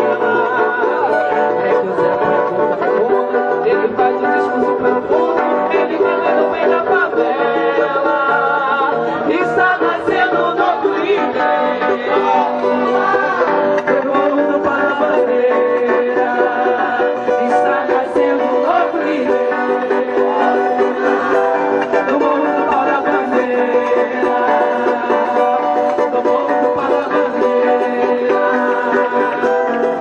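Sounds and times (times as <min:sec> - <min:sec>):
acoustic guitar music: 0:00.0 - 0:30.0.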